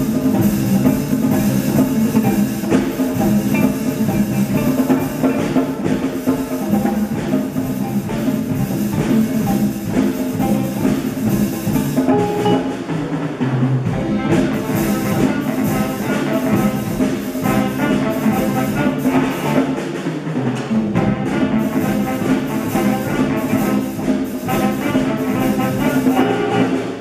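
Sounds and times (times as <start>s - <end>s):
saxophones and brass: 0.0s - 12.9s, 13.8s - 20.1s, 20.8s - 27.0s
bass: 0.0s - 19.9s, 20.6s - 27.0s
drum kit beat: 0.0s - 27.0s.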